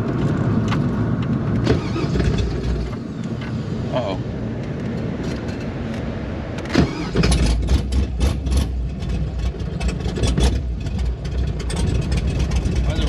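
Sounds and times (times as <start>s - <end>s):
car engine deep rumble: 0.0s - 13.0s.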